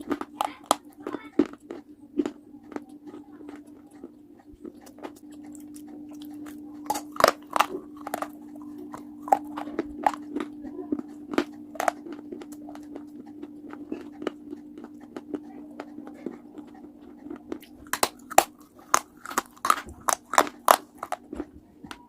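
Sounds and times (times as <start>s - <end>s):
crunching of brittle pieces: 0.0s - 15.3s, 17.6s - 22.0s
steady low hum: 0.0s - 22.0s.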